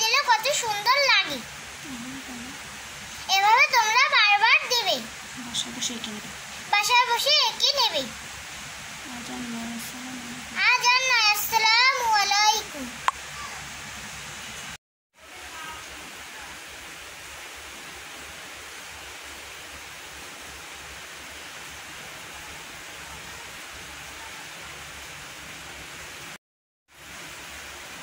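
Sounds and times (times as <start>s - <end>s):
background hiss: 0.0s - 26.4s.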